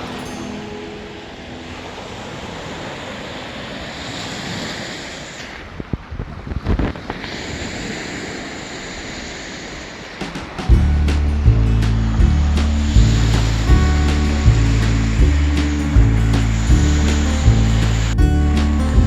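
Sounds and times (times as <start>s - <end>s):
waves washing on shore: 0.0s - 19.0s
wind buffeting microphone: 0.0s - 19.0s.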